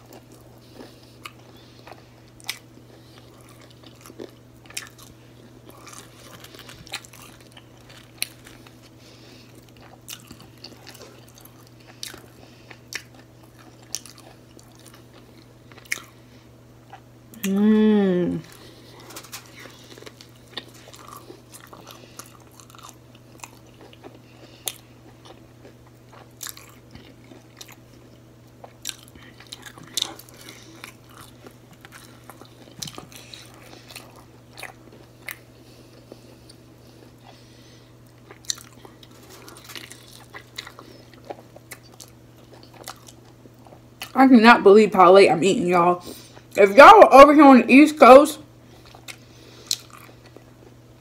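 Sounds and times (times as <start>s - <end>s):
person chewing crunchy food: 0.0s - 17.6s, 18.3s - 44.2s, 48.6s - 51.0s
faint low hum: 0.0s - 51.0s.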